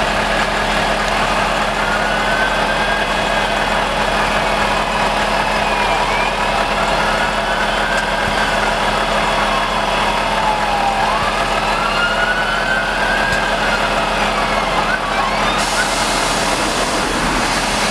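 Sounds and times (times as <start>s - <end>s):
diesel truck engine idling: 0.0s - 17.9s.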